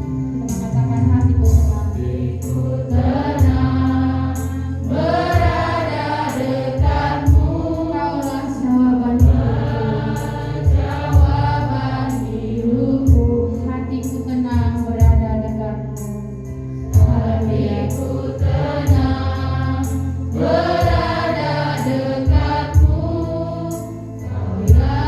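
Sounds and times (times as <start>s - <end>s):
choir singing worship song: 0.0s - 16.1s, 16.7s - 25.0s.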